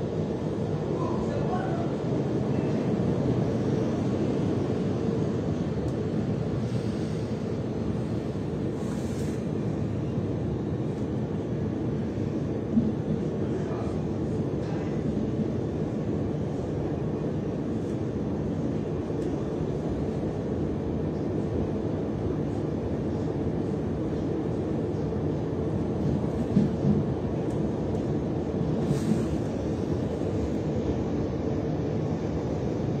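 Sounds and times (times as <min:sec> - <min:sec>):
electric train rumble from inside: 0:00.0 - 0:33.0.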